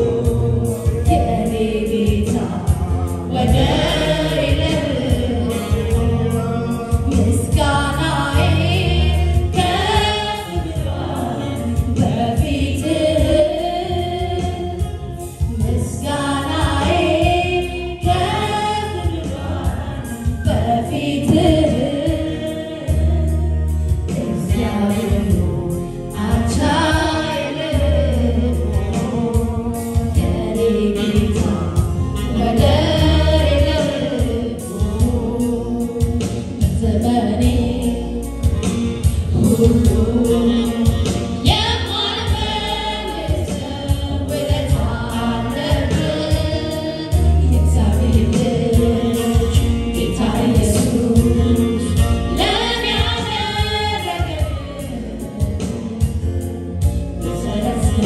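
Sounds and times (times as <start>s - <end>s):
backing singers: 0.0s - 56.4s
woman singing lead: 0.0s - 58.0s.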